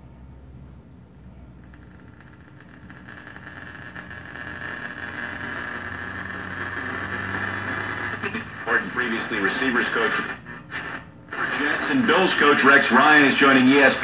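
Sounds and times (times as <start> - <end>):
radio low hum: 0.6 - 14.0
static hiss: 1.4 - 14.0.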